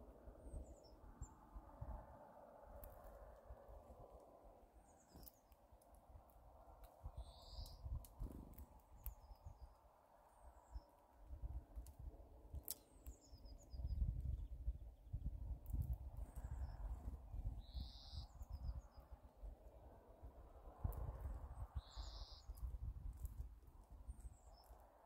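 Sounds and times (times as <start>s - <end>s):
small birds chirping: 0.0s - 2.0s, 2.7s - 25.0s.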